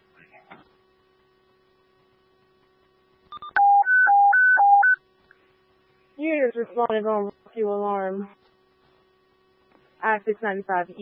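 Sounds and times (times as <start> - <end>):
faint radio hum: 0.0 - 3.2, 5.2 - 11.0.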